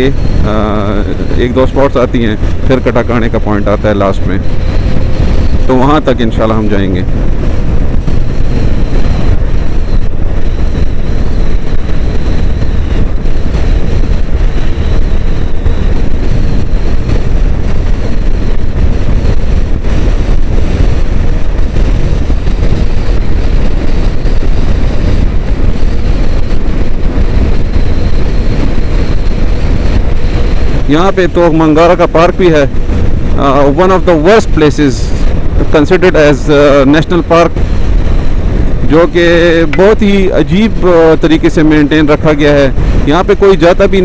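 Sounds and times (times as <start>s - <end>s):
motorcycle engine running: 0.0s - 34.3s, 35.1s - 41.1s
wind buffeting microphone: 0.0s - 44.0s.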